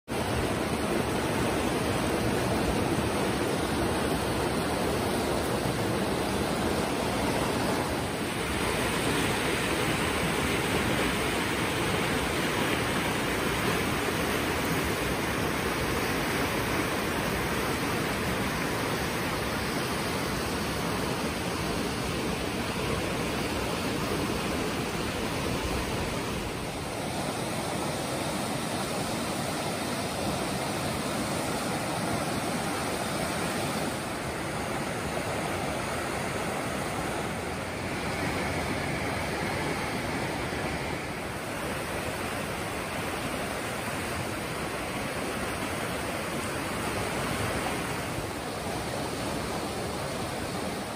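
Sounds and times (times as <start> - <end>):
creek whitewater rushing: 0.1 - 50.9.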